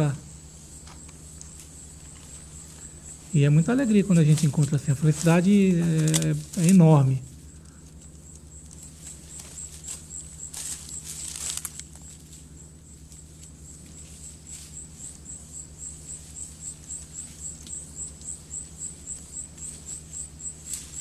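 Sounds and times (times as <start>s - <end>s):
insect chirping: 0.0s - 21.0s
leaves and brush rustling: 0.0s - 21.0s
low steady hum: 0.0s - 21.0s.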